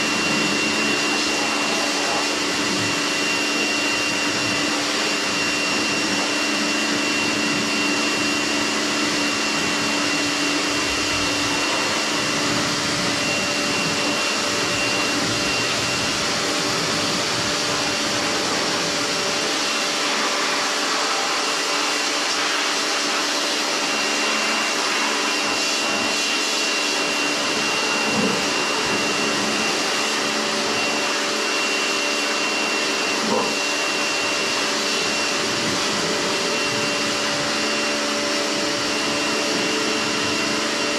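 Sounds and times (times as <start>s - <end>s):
pressure washer spraying water: 0.0s - 40.9s.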